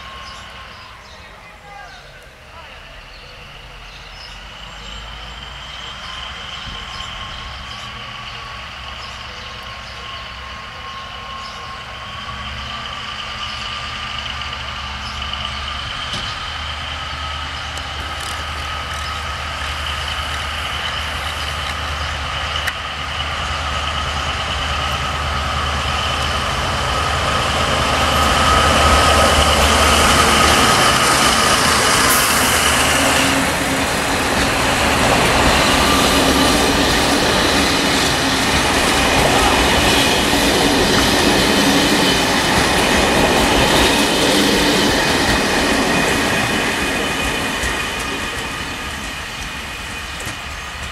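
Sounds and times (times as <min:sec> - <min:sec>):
diesel locomotive engine under load: 0:00.0 - 0:50.9.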